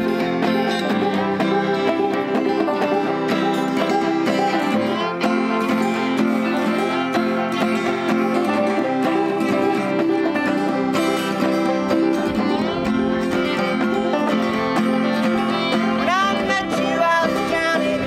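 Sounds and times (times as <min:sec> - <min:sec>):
acoustic guitar strumming: 0:00.0 - 0:18.0
banjo picking: 0:00.0 - 0:18.0
fiddle bowing: 0:00.0 - 0:18.0.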